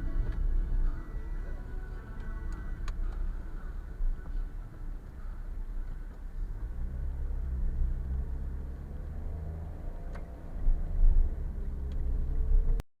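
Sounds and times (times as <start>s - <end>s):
car engine and road noise: 0.0s - 12.9s.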